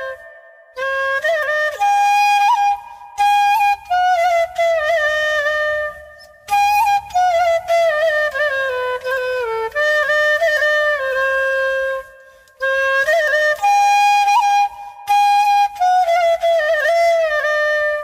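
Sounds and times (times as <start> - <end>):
solo flute melody: 0.0 - 18.0.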